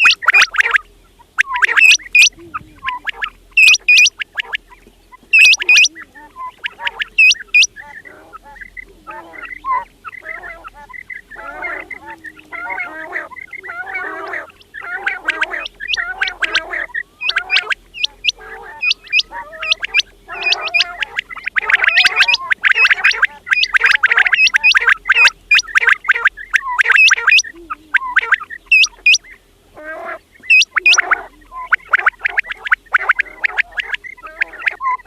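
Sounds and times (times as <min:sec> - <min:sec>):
quails calling: 0:00.0 - 0:35.0.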